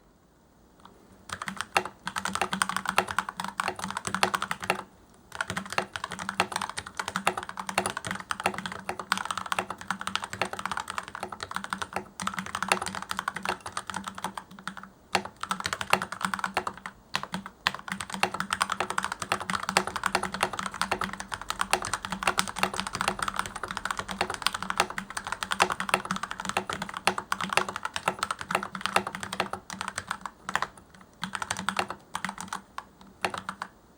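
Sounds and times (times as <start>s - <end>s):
mechanical keyboard typing: 0.8s - 33.8s.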